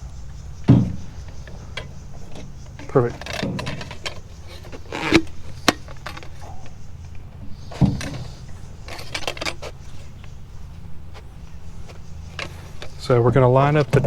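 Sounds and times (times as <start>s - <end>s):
plastic parts knocking and clacking: 0.0s - 14.0s
small plastic clicks: 0.6s - 14.0s.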